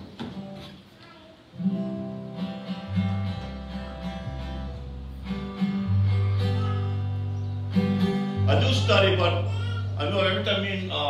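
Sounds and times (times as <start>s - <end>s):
acoustic guitar strumming: 0.0s - 0.9s, 1.6s - 11.0s.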